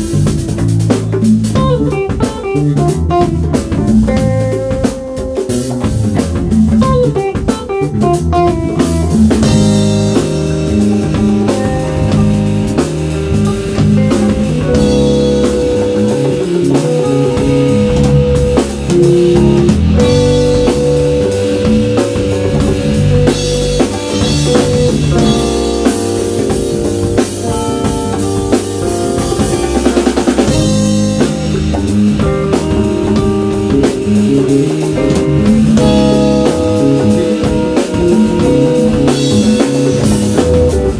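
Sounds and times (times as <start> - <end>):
electric guitar lead: 0.0 - 40.9
live band playing instrumental: 0.0 - 40.9.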